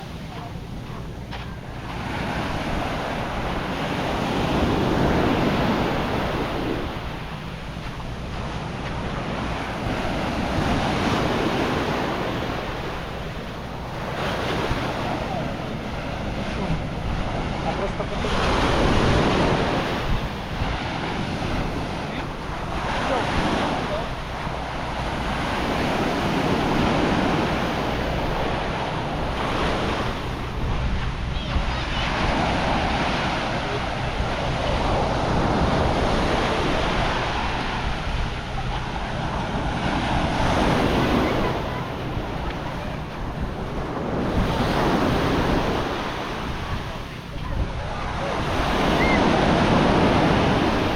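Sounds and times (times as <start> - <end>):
sea waves breaking on beach: 0.0 - 50.9
wind buffeting microphone: 0.0 - 50.9.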